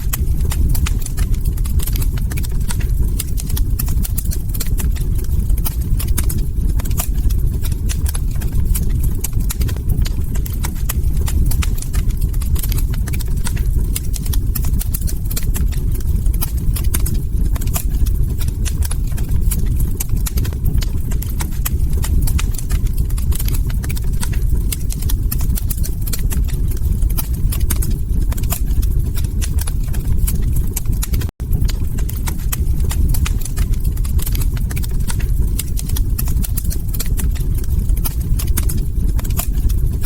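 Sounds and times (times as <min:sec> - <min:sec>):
log fire crackling: 0:00.0 - 0:40.0.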